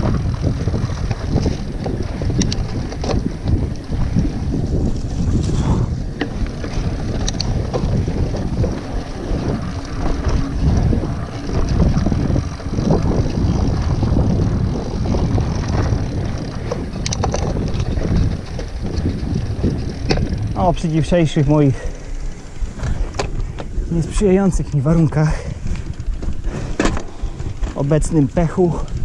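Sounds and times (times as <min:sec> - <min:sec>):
bike clicks and rattles: 0:00.0 - 0:29.0
wind buffeting microphone: 0:00.0 - 0:29.0.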